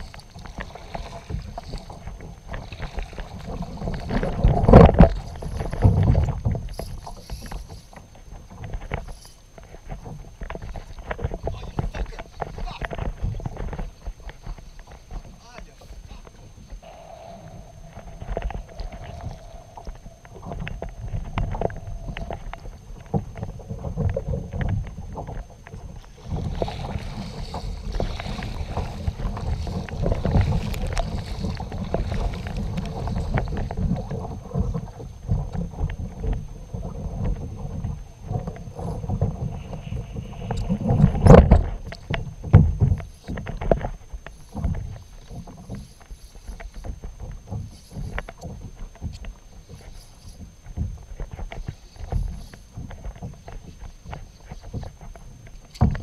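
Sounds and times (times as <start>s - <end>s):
water slapping kayak hull: 0.0s - 56.0s
wind rumble on microphone: 0.0s - 56.0s.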